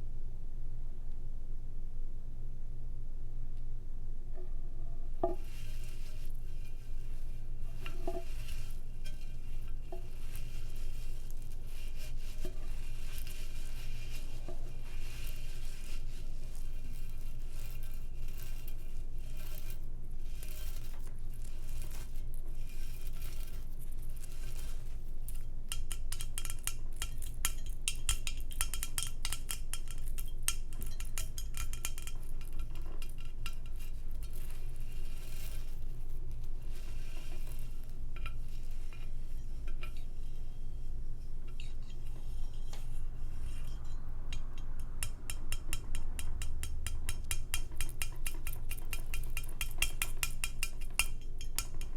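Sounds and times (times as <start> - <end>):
steady low hum: 0.0 - 48.9
cutlery scraping against a dish: 5.2 - 23.6, 24.2 - 35.9, 36.7 - 51.9.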